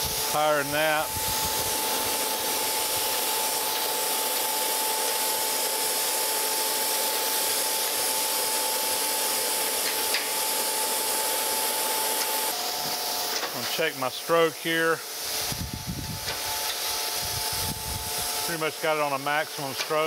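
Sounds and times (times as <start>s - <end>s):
coolant mist hiss: 0.0s - 20.0s
grinding wheel whine: 0.0s - 20.0s.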